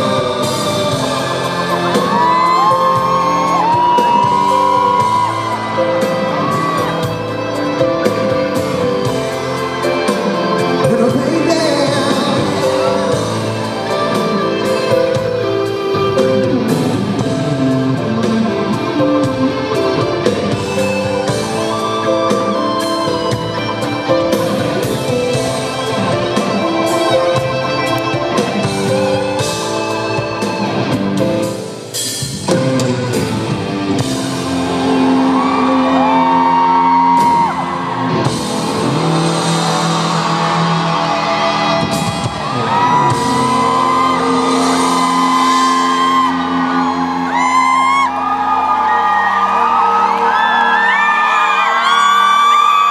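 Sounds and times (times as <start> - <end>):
audience screaming and whooping: 0.0 - 31.8, 32.4 - 52.9
live pop ballad: 0.0 - 52.9.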